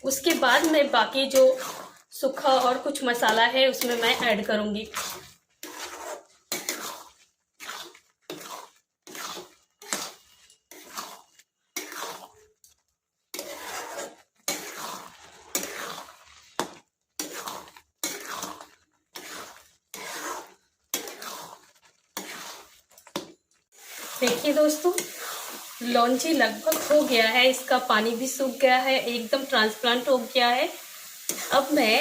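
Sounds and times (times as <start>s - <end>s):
spoon scraping a cooking pan: 0.0s - 32.0s.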